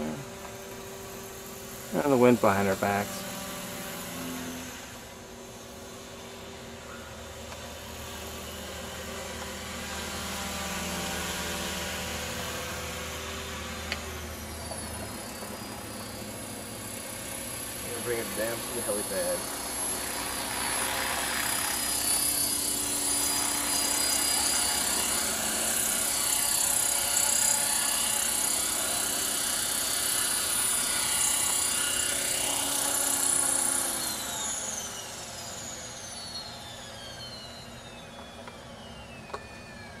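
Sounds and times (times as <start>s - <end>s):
rc helicopter rotor whine: 0.0s - 40.0s.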